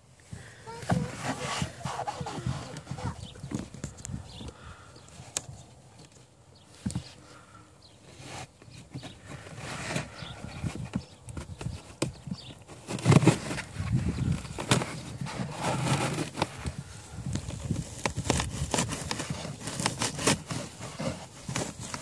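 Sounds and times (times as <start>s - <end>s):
air filter scraping against housing: 0.6s - 5.5s, 6.8s - 22.0s.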